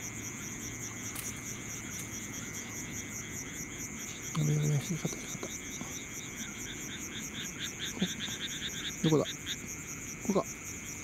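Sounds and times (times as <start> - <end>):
crickets chirping: 0.0 - 11.0
frog croaking: 0.0 - 11.0.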